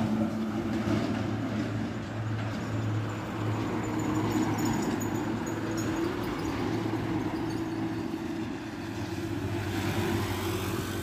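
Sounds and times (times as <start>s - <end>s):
diesel trucks driving past: 0.0s - 11.0s
road noise: 0.0s - 11.0s.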